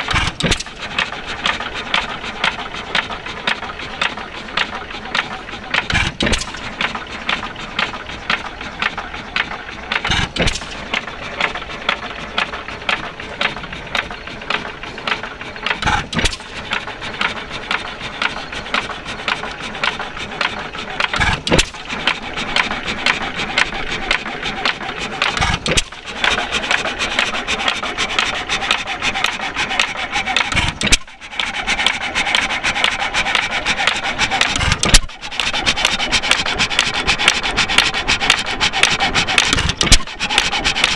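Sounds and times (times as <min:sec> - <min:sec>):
rapid mechanical clicking: 0:00.0 - 0:40.9.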